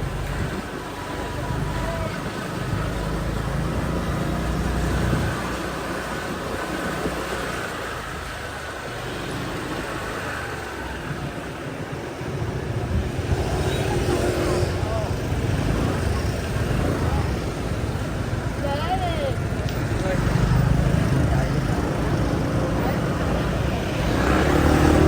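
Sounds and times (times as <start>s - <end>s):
motorbike engine: 0.0s - 25.0s
passing vehicles: 0.0s - 25.0s
road rumble: 0.0s - 25.0s.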